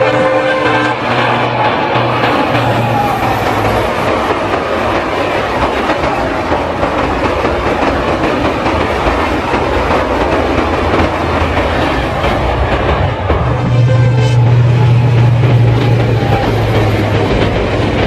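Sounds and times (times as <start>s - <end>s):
train wheels clattering: 0.0s - 18.0s.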